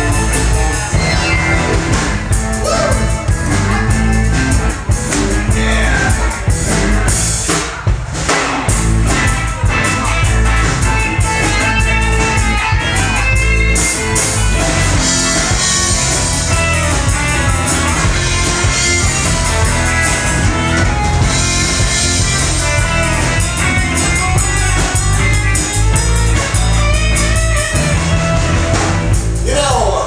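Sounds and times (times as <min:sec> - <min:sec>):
electric guitars: 0:00.0 - 0:29.5
bass guitar: 0:00.0 - 0:30.0
drum kit: 0:00.0 - 0:30.0.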